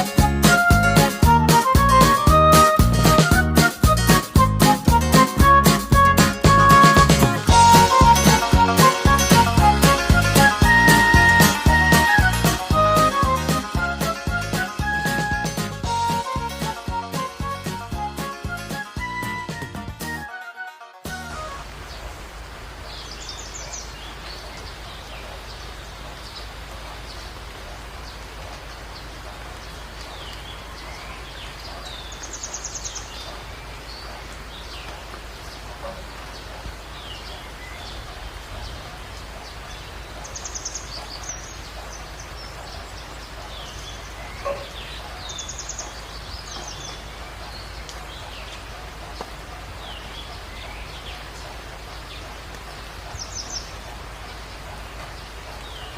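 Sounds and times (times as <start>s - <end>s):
birds chirping: 0.0s - 20.2s, 21.1s - 55.9s.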